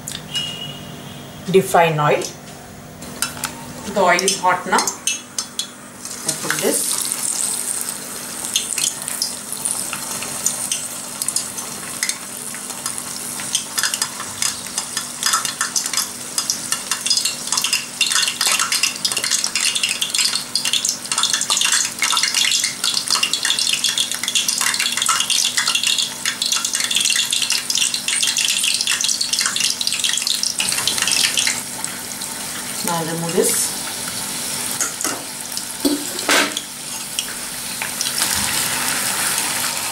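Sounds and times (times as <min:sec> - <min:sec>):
oil sizzling and popping: 0:03.0 - 0:39.9.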